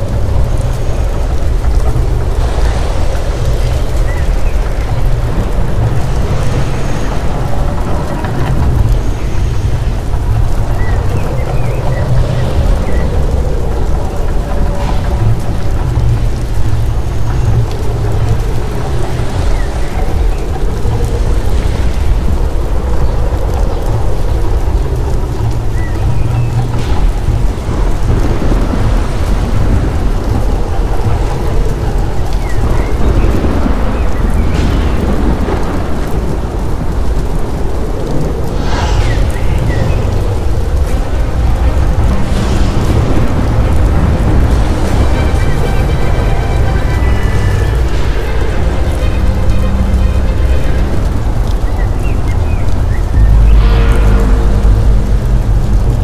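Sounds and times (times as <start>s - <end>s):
deep rumbling over loudspeakers: 0.0s - 56.0s.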